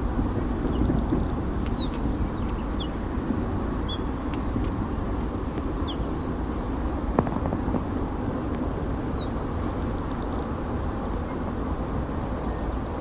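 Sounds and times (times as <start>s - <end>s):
insects chirping in pulses: 0.0s - 13.0s.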